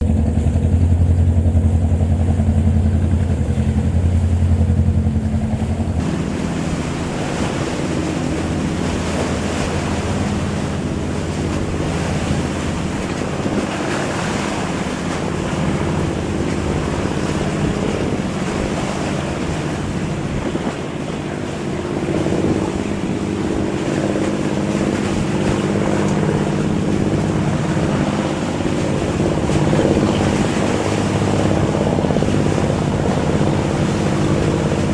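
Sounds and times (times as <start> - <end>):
boat engine humming: 0.0 - 34.9
water washing: 0.0 - 34.9
wind: 0.0 - 34.9.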